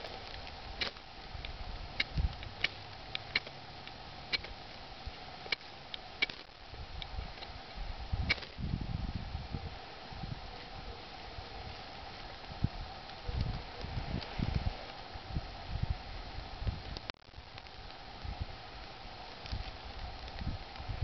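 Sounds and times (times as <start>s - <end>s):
faint steady hum: 0.0s - 21.0s
twigs and leaves rustling: 0.0s - 21.0s.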